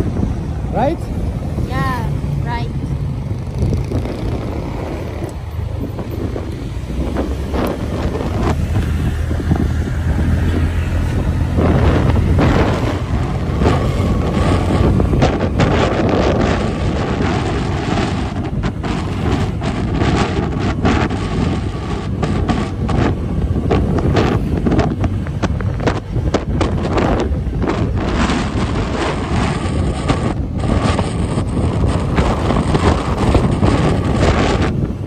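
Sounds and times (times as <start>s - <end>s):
road noise: 0.0s - 35.0s
wind buffeting microphone: 0.0s - 35.0s
motorcycle engine running: 2.4s - 35.0s.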